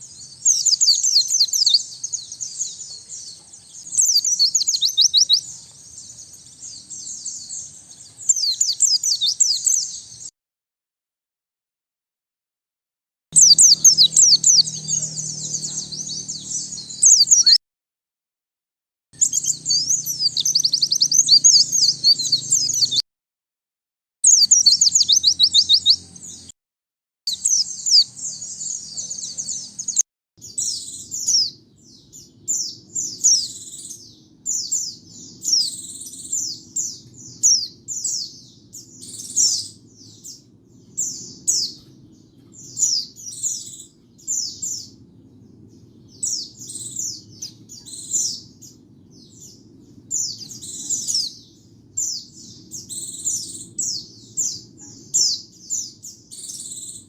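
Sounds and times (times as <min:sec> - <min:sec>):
bird twittering: 0:00.0 - 0:10.3, 0:13.4 - 0:17.6, 0:19.2 - 0:23.0, 0:24.2 - 0:26.5, 0:27.3 - 0:45.0, 0:46.2 - 0:57.0.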